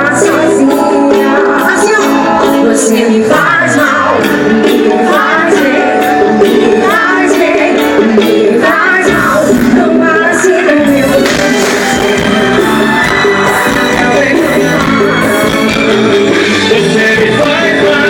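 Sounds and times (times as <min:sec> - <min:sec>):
live band playing: 0:00.0 - 0:18.0
person singing: 0:00.0 - 0:18.0.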